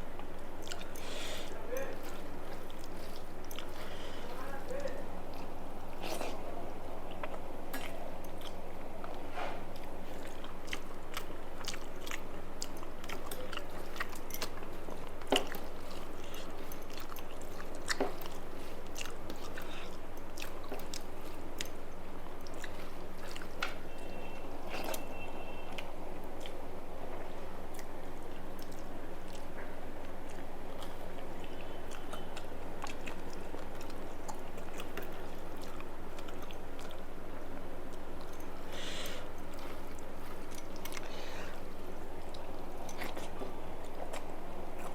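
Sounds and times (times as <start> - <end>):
chewing and biting: 0.2 - 44.9.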